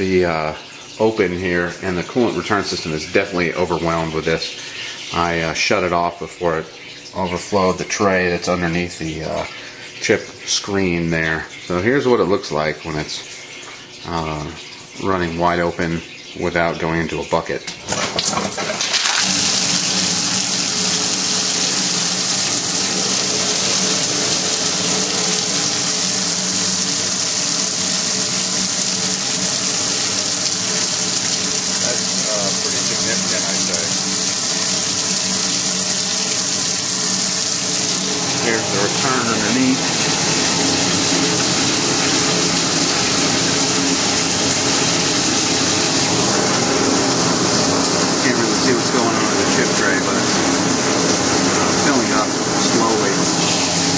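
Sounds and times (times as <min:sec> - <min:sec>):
coolant water rushing and splashing: 0:00.0 - 0:53.9
pump humming: 0:00.0 - 0:53.9.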